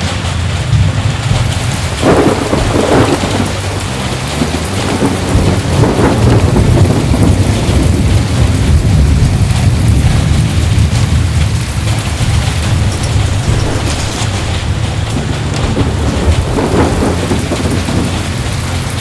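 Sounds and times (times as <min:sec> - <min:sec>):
heavy rain: 0:00.0 - 0:19.0
rolling thunder: 0:00.0 - 0:19.0.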